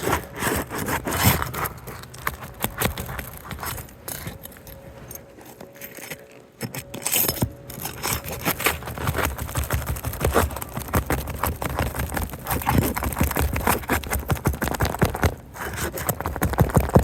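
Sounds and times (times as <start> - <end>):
metal tool scraping shingles: 0.0 - 17.0.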